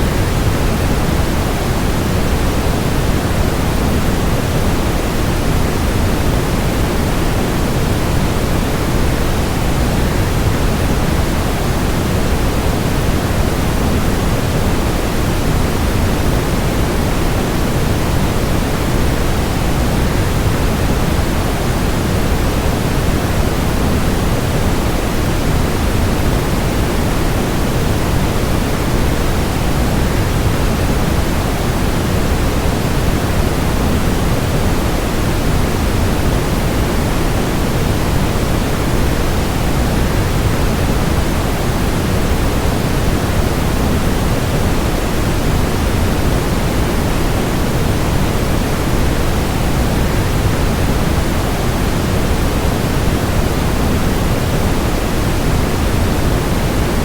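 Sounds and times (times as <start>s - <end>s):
waterfall rush with white noise: 0.0s - 57.0s.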